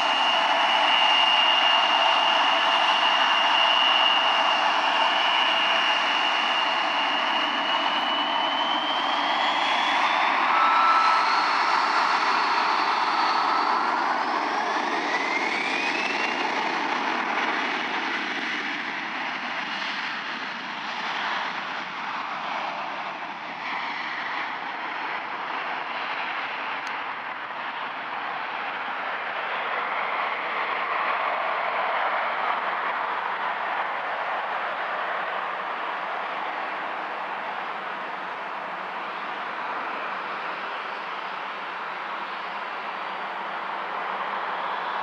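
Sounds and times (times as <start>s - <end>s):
high jet engine whine: 0.0s - 45.0s
jet exhaust roar: 0.0s - 45.0s
lower jet engine whine: 0.0s - 45.0s.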